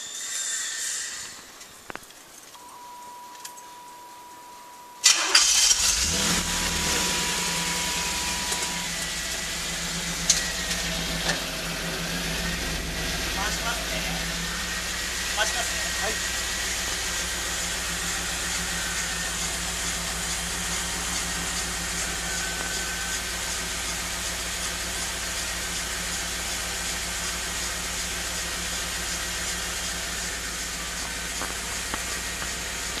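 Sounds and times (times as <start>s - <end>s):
high-pitched brake whine: 0.0s - 1.9s, 2.5s - 33.0s
car engine running: 5.0s - 33.0s.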